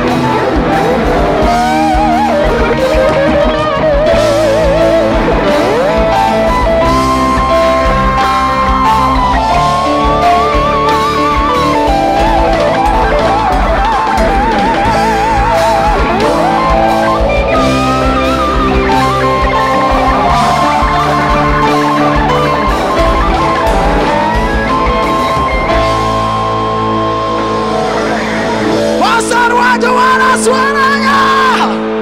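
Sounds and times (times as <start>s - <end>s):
electric guitar solo: 0.0s - 32.0s
live rock band: 0.0s - 32.0s.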